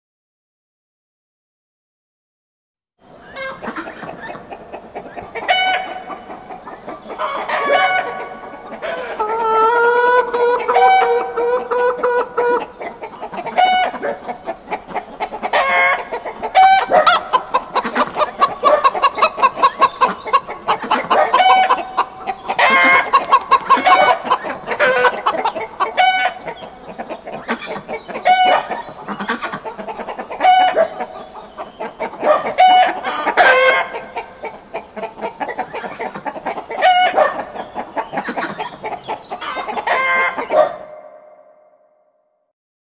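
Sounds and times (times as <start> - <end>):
chickens clucking and calling: 3.0 - 41.8.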